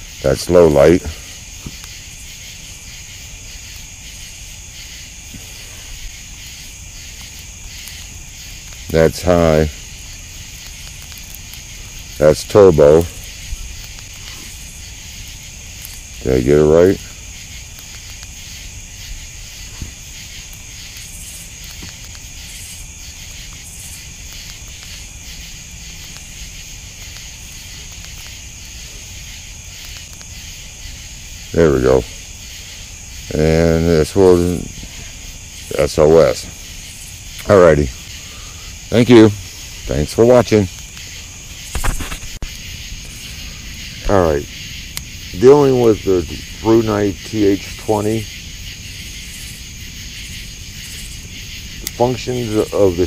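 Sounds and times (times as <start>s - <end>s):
crickets trilling: 0.0s - 53.0s
night insects chorus: 0.0s - 53.0s.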